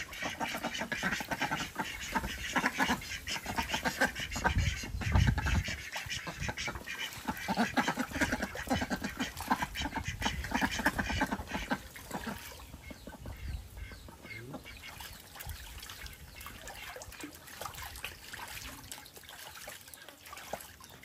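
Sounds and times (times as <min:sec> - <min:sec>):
ducks quacking: 0:00.0 - 0:18.6
ducks splashing in water: 0:00.0 - 0:21.0.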